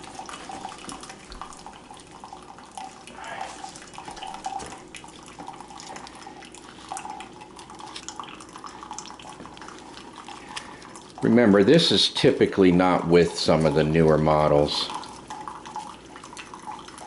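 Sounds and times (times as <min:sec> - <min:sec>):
water streaming into a cup: 0:00.0 - 0:17.0.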